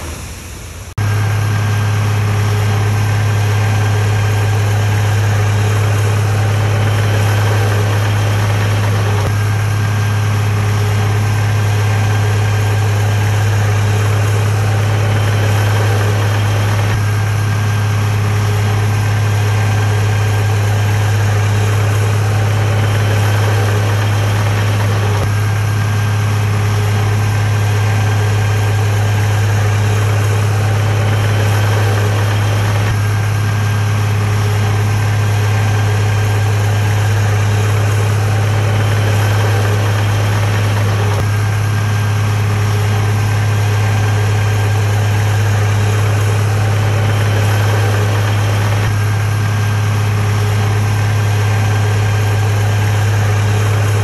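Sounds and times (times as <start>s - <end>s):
heavy diesel engine droning: 0.0s - 54.0s.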